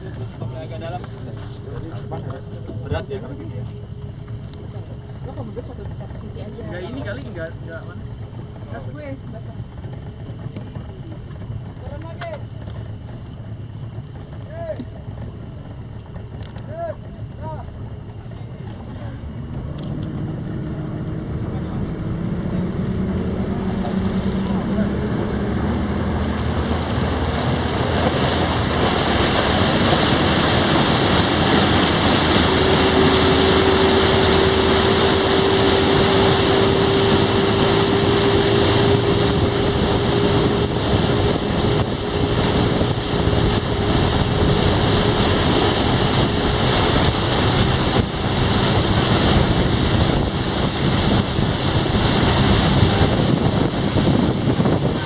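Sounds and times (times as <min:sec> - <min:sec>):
motorboat engine running: 0:00.0 - 0:55.0
water rushing past hull: 0:00.0 - 0:55.0
wind buffeting microphone: 0:00.0 - 0:55.0.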